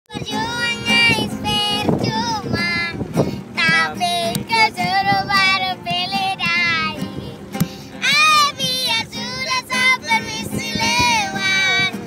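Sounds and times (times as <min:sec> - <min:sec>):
girl singing in a high voice: 0:00.1 - 0:07.4, 0:08.0 - 0:12.0
boat motor humming: 0:00.2 - 0:12.0.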